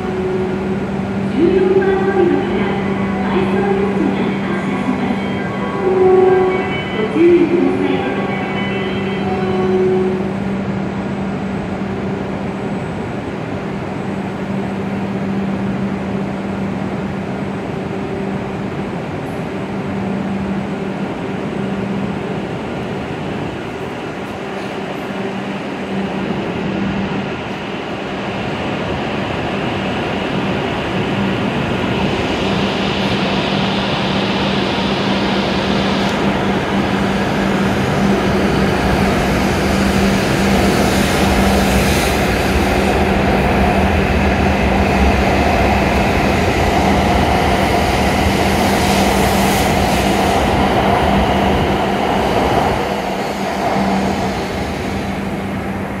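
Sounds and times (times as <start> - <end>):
train accelerating past: 0.0 - 56.0.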